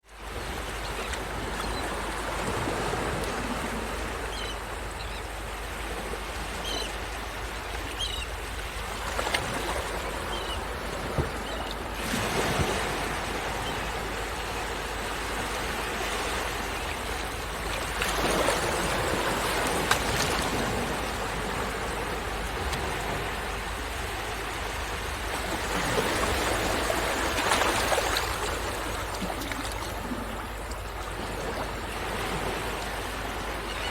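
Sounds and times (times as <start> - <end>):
waves breaking on shore: 0.1 - 33.9.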